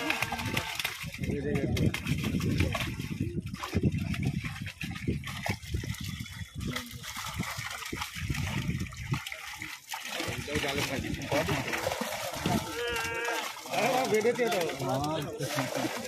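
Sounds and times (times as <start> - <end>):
fish splashing in net: 0.0 - 16.0.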